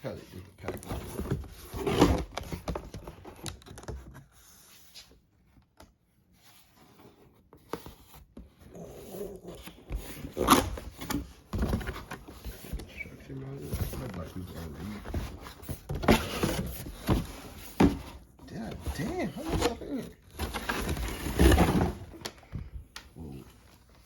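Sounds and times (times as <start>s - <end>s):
packaging rustling and scraping: 0.5s - 5.2s, 6.4s - 22.4s.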